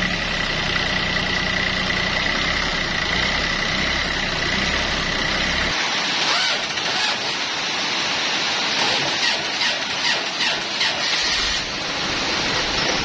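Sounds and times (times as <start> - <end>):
engine idling: 0.0 - 7.4, 8.8 - 13.0.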